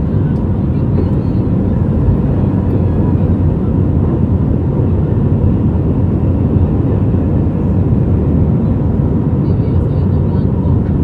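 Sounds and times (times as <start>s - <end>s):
jet engine cabin rumble: 0.0s - 11.0s.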